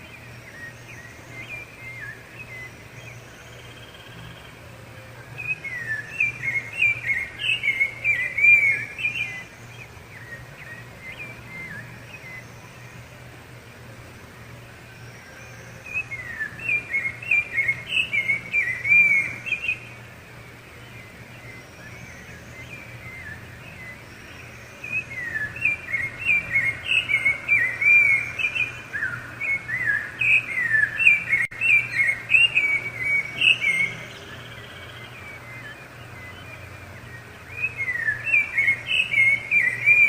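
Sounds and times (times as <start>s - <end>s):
thrush singing whistled phrases: 0.0s - 4.5s, 5.4s - 13.2s, 14.8s - 40.0s.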